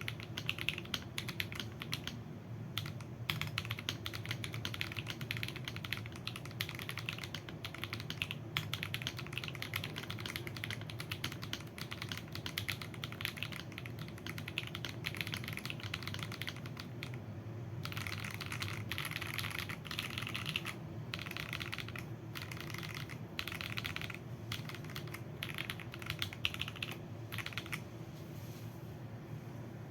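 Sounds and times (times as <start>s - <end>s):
mechanical keyboard typing: 0.0s - 17.2s, 17.8s - 27.8s.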